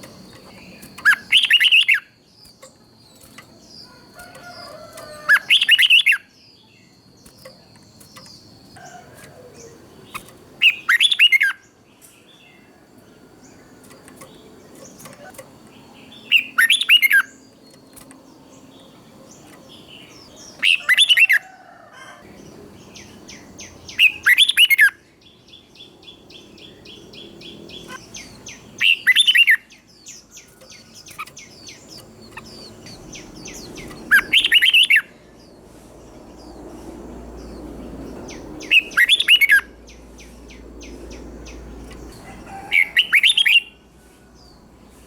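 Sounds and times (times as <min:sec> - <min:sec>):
rapid bird chirping: 0:00.0 - 0:21.4, 0:22.3 - 0:43.8
bird song phrases: 0:00.0 - 0:45.0.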